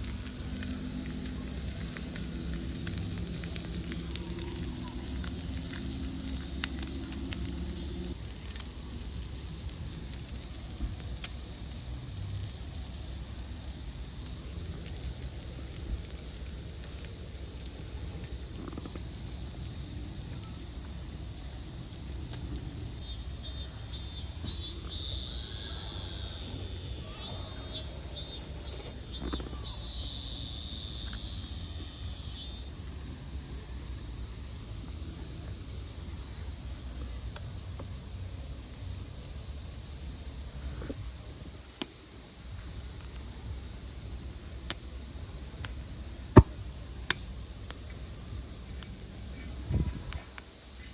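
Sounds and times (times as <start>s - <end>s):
campfire crackling: 0.0s - 32.8s, 37.2s - 50.9s
insect chirping in rapid pulses: 0.0s - 41.0s, 41.9s - 50.9s.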